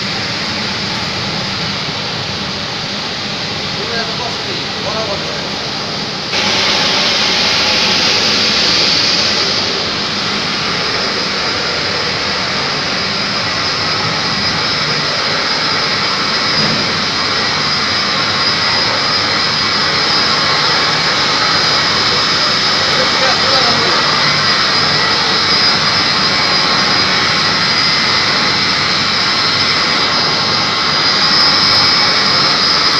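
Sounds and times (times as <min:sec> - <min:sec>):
chiller machinery running: 0:00.0 - 0:32.9
faint high whine: 0:00.0 - 0:32.9.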